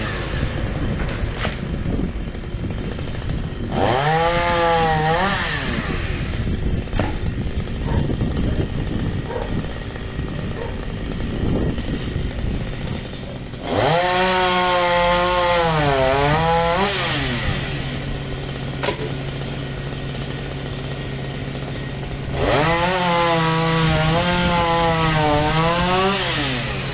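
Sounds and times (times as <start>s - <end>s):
chainsaw revving and cutting: 0.0s - 26.9s.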